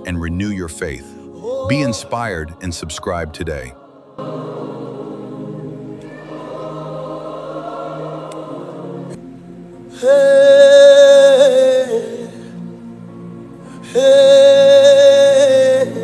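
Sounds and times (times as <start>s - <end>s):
soft sustained gospel chords: 0.0s - 16.0s.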